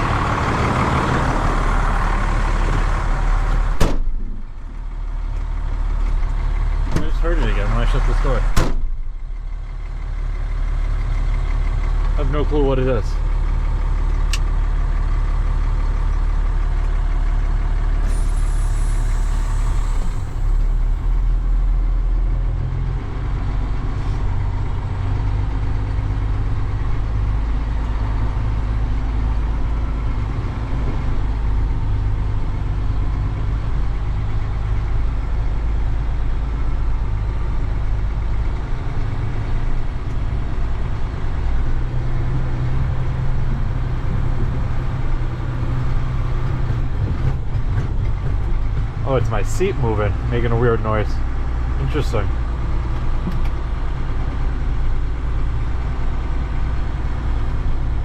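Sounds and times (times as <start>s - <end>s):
truck engine rumbling: 0.0s - 58.0s.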